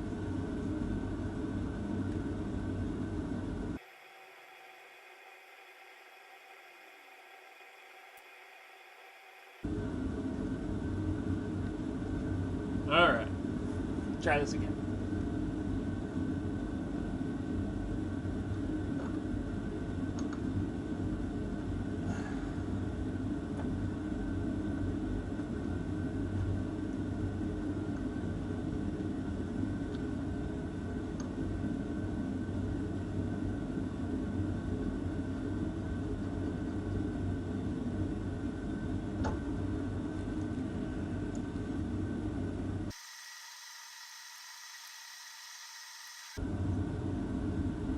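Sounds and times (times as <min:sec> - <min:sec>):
machine drone with high whine: 0:00.0 - 0:47.9.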